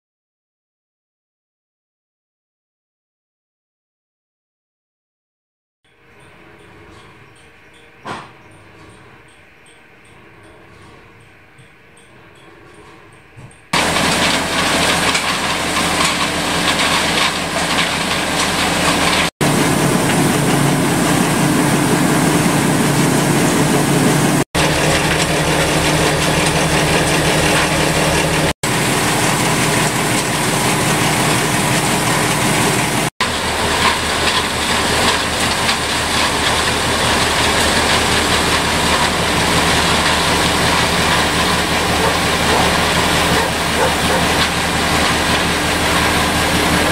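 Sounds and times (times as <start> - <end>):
stone mill grinding: 6.2 - 46.9.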